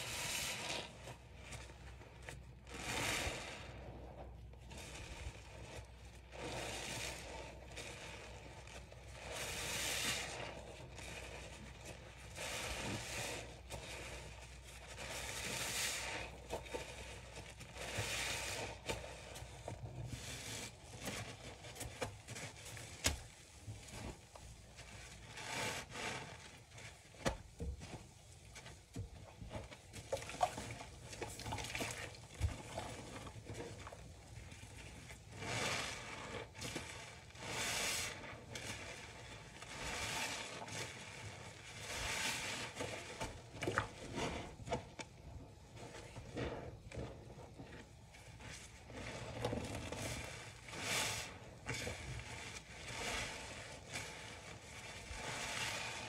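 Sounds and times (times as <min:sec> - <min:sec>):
wet sponge squelching: 0:00.0 - 0:56.0
foam fizzing and crackling: 0:04.7 - 0:56.0.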